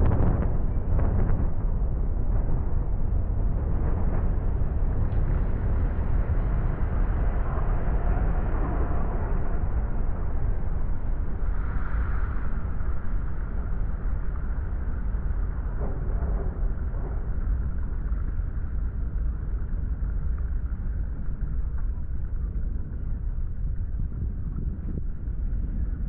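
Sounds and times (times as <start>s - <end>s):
low rumble of buildings collapsing: 0.0s - 26.0s.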